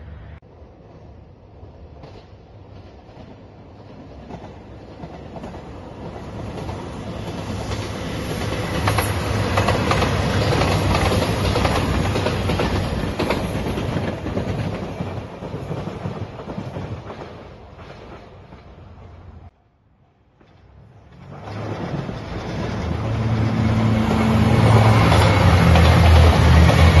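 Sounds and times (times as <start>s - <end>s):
diesel train passing: 0.0s - 27.0s
wheels clacking over rail joints: 2.0s - 18.8s, 20.4s - 27.0s.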